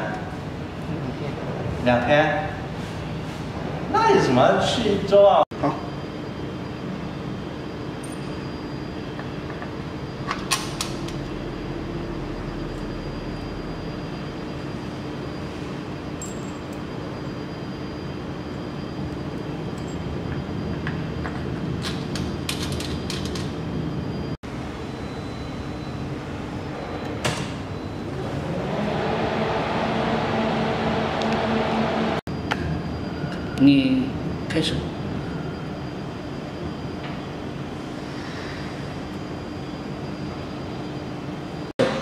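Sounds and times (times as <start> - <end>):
faint high whine: 0.0 - 42.0
steady low hum: 0.0 - 42.0.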